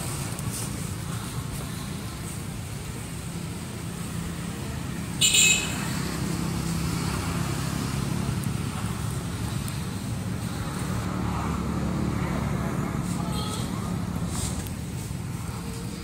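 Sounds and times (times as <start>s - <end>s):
motor vehicle humming: 0.0s - 16.0s.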